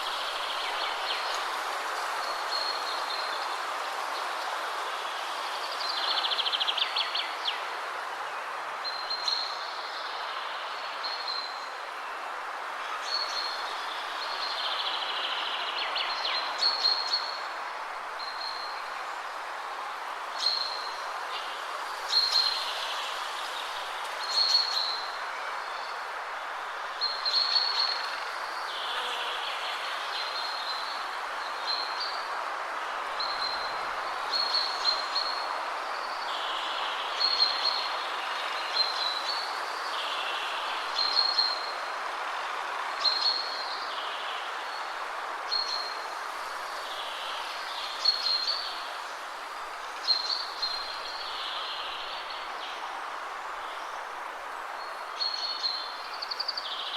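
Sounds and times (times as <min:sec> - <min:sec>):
wind blowing through trees: 0:00.0 - 0:56.9.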